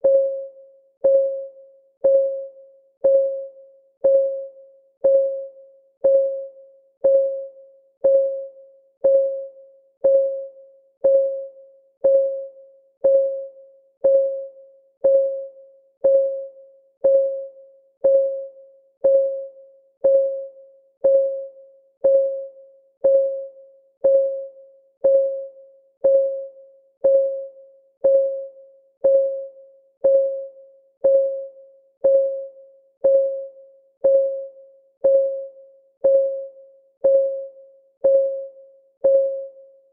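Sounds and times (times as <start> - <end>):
timer ticking: 1.0 - 39.5.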